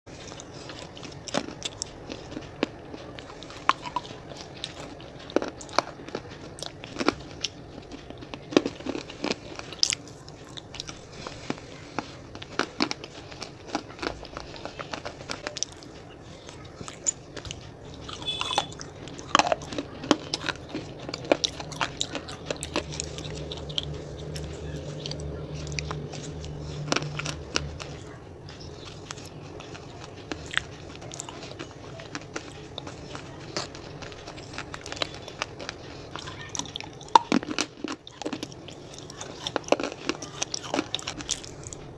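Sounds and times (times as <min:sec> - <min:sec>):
low steady hum: 0:00.1 - 0:41.9
wet chewing: 0:00.1 - 0:41.9.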